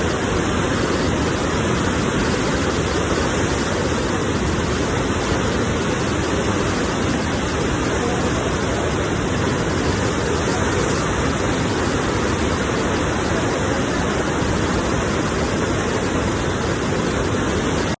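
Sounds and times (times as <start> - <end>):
ocean surf rushing: 0.0 - 18.0.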